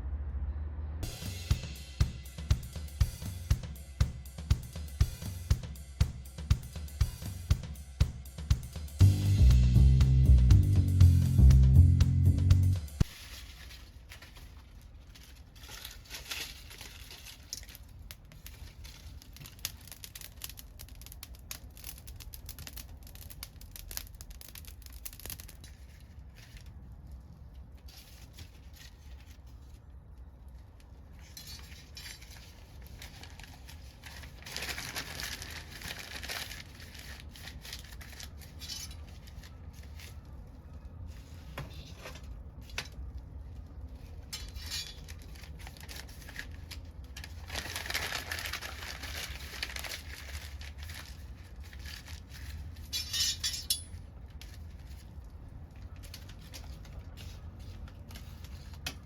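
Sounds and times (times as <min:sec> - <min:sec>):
wood fire crackling: 0:09.1 - 0:41.4, 0:42.0 - 0:59.0.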